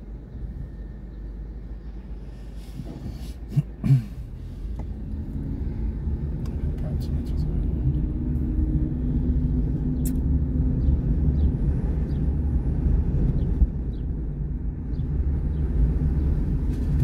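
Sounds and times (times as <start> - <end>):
car rumble inside cabin: 0.0 - 17.0.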